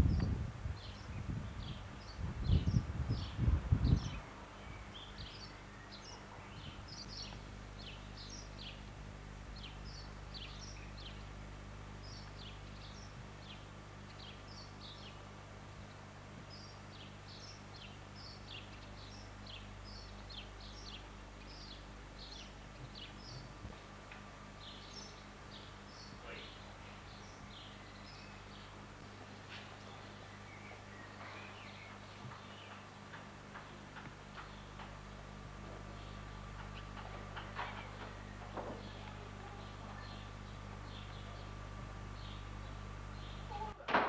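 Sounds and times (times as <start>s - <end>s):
birds chirping: 0.0s - 43.9s
steady low hum: 0.0s - 44.0s.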